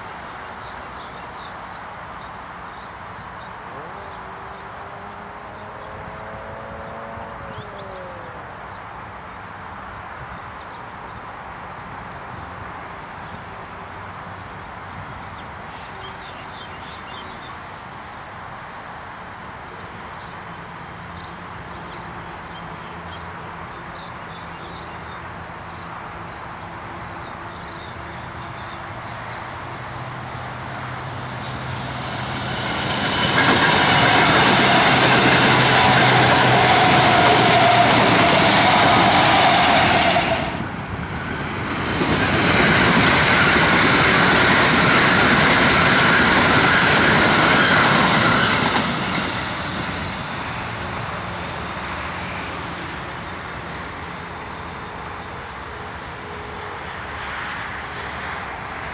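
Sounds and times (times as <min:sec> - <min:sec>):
electric train passing at speed: 0:00.0 - 0:10.6, 0:20.4 - 0:58.9.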